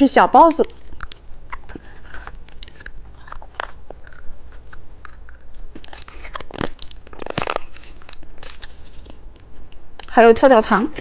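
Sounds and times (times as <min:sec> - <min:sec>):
person chewing crunchy candy: 0:00.6 - 0:09.5.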